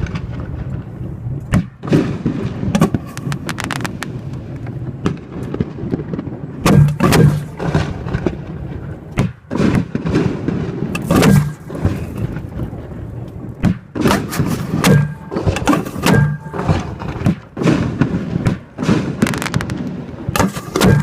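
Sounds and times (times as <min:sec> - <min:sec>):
fireworks crackling: 0:00.0 - 0:06.6, 0:07.3 - 0:21.0
fireworks blasts: 0:00.0 - 0:21.0.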